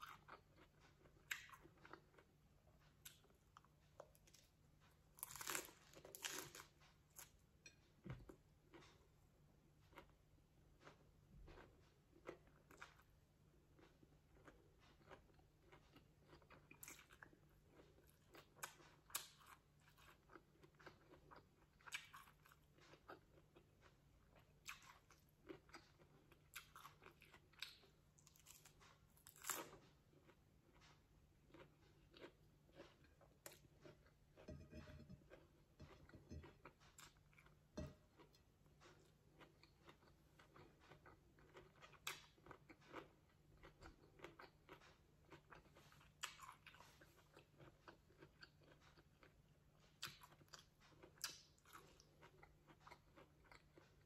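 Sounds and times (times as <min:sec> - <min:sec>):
crunchy chewing: 0:00.0 - 0:07.4, 0:10.8 - 0:54.0.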